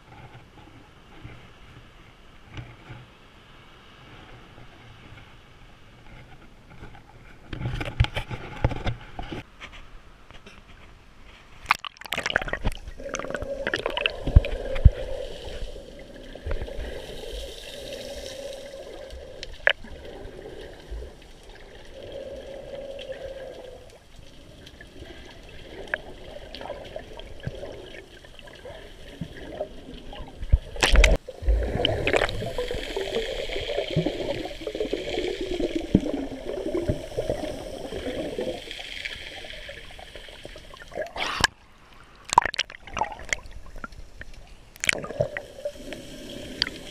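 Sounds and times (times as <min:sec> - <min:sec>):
underwater gurgling and sloshing: 0:00.0 - 0:09.5, 0:11.3 - 0:46.9.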